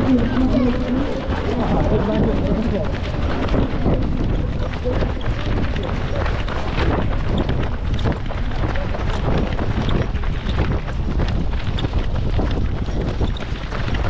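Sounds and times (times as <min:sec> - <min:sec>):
footsteps on wet asphalt: 0:00.0 - 0:14.0
wind on microphone: 0:00.0 - 0:14.0.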